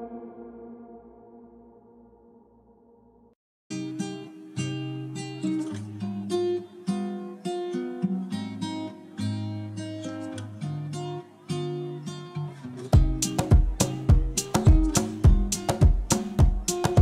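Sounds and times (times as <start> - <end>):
acoustic guitar plucked notes: 0.0 - 2.2, 3.7 - 17.0.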